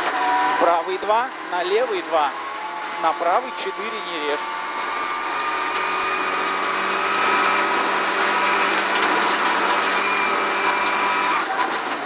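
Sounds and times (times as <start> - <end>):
car engine at full throttle: 0.0 - 12.0
tyres on gravel: 0.0 - 12.0.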